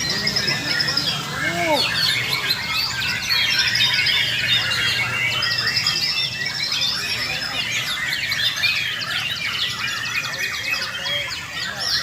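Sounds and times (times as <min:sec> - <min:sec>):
many songbirds singing: 0:00.0 - 0:12.0.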